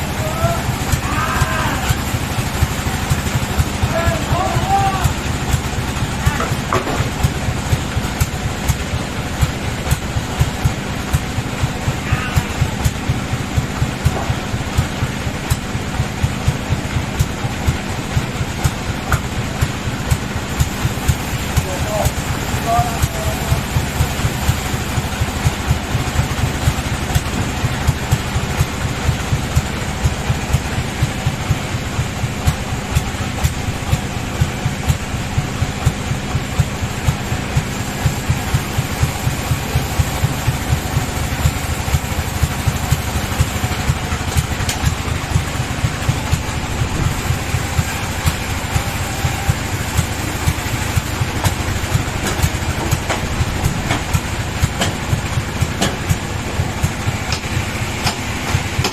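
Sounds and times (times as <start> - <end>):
sawmill machinery pulsing hum: 0.0 - 58.9.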